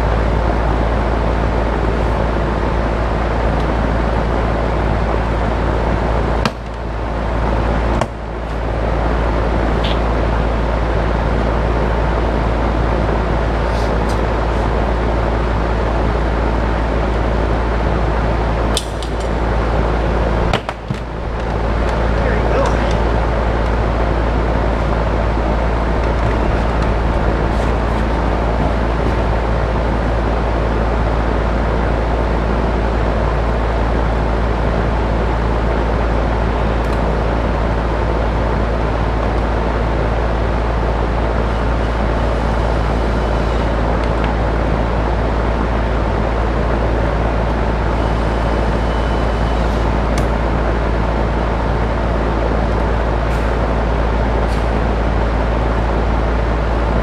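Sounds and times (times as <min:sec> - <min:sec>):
loud steady rumbling with hum: 0:00.0 - 0:57.0.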